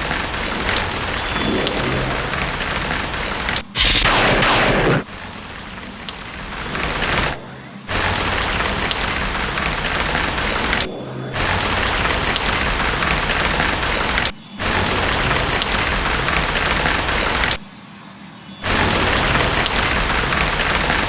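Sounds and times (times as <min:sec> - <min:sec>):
deep rumble of thunder: 0:00.0 - 0:17.0
heavy rain pouring: 0:00.0 - 0:17.5.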